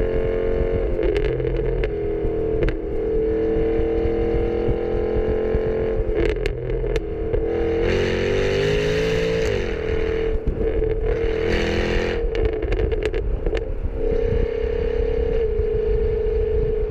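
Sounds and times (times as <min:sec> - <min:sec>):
car engine and exhaust: 0:00.0 - 0:16.9
sharp exhaust pops: 0:00.1 - 0:13.7.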